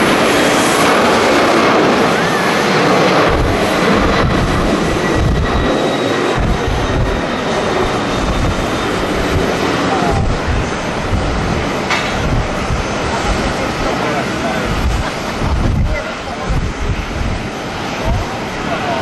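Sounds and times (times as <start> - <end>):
jet airliner engines roaring: 0.0 - 19.0
wind buffeting microphone: 0.0 - 19.0.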